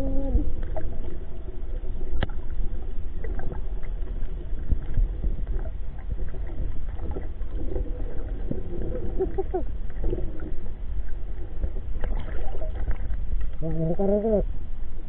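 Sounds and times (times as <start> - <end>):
muffled water noise: 0.0 - 15.0
steady low rumble: 0.0 - 15.0.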